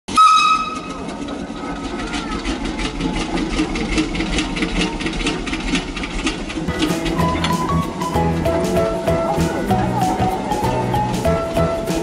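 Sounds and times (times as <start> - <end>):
machinery clattering: 0.1 - 12.0.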